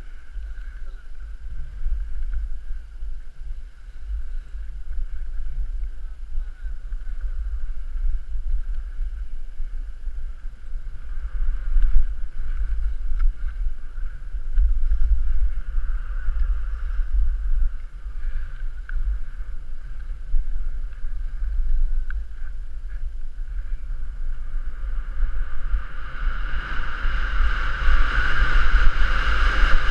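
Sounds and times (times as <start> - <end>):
drone propellers humming: 0.0 - 29.9
wind rumble on microphone: 0.0 - 29.9.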